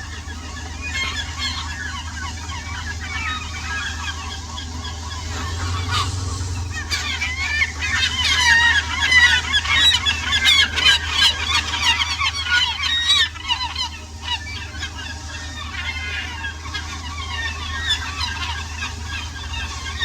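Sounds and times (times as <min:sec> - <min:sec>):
flock of birds calling: 0:00.0 - 0:20.0
low steady hum: 0:00.0 - 0:20.0.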